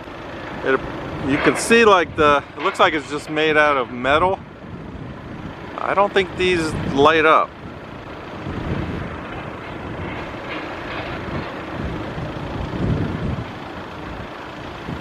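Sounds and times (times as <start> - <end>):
passing vehicle: 0.0 - 15.0
road traffic rumble: 0.0 - 15.0.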